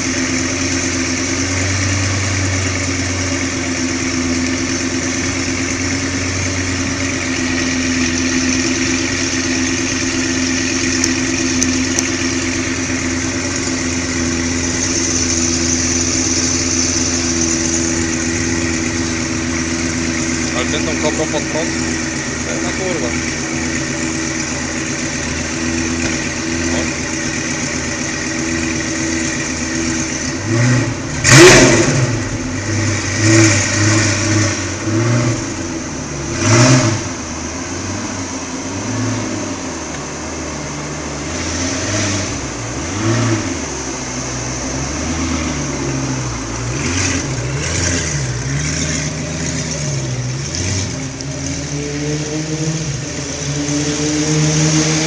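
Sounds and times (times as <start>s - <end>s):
sports car engine idling and revving: 0.0s - 55.0s.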